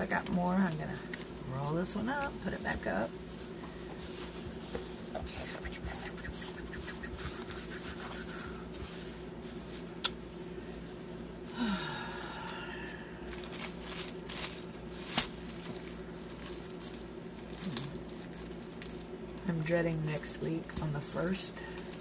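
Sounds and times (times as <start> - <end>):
plastic rustling and rubbing: 0.0 - 10.0, 13.2 - 22.0.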